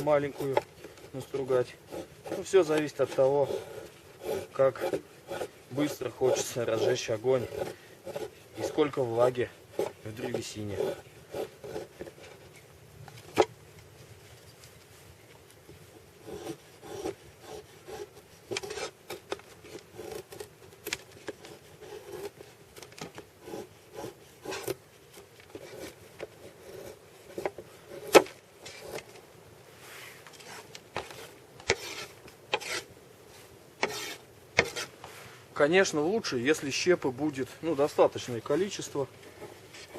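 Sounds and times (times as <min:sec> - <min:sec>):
knife shaving wood: 0:00.0 - 0:12.7, 0:13.3 - 0:29.2, 0:30.2 - 0:35.2.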